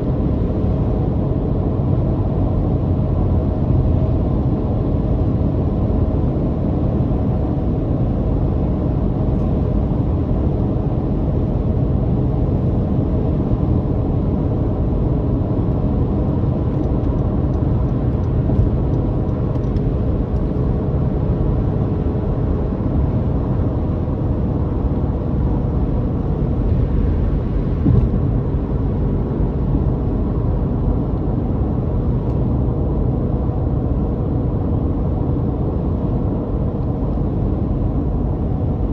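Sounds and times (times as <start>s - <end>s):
car engine droning: 0.0s - 38.9s
low road rumble: 0.0s - 38.9s.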